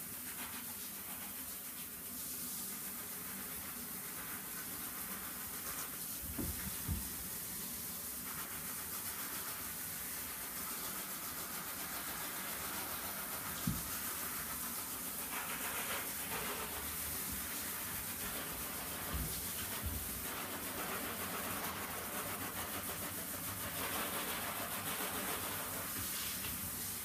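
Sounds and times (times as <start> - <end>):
shower water hissing: 0.0 - 27.0.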